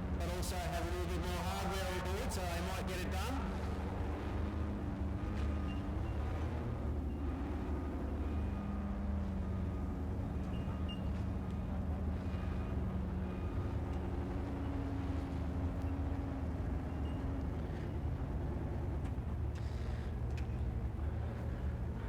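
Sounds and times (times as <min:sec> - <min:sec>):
off-road vehicle engine rumbling: 0:00.0 - 0:22.0.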